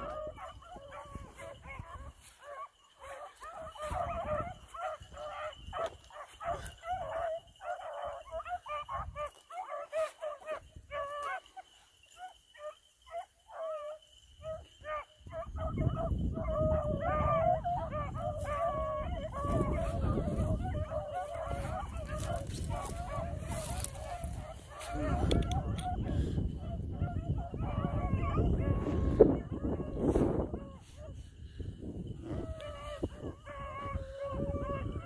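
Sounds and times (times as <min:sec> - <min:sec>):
dogs baying and yelping: 0:00.0 - 0:35.0.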